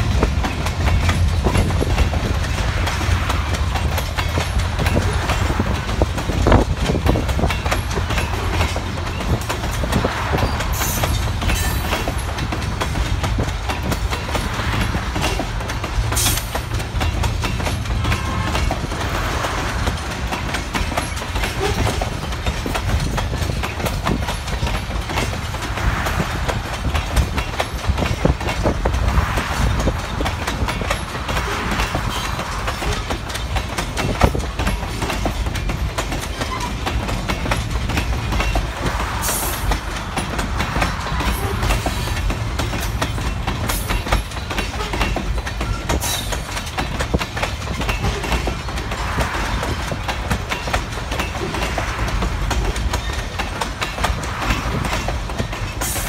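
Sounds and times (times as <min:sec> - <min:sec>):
train cars rumbling past: 0:00.0 - 0:56.0
wheels clacking over rail joints: 0:00.0 - 0:56.0.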